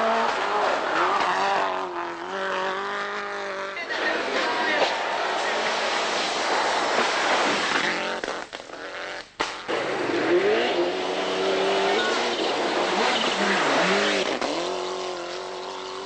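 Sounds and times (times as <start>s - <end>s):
gravel and tyre noise: 0.0s - 16.0s
rally car engine revving: 0.0s - 16.0s.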